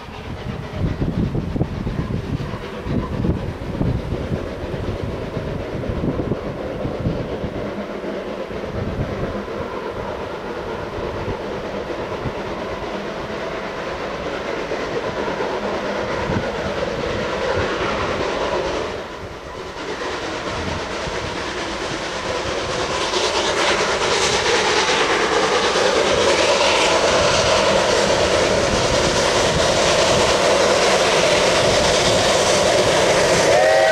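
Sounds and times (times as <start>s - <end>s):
rail clatter: 0.0s - 33.9s
steam locomotive rumble: 0.0s - 33.9s.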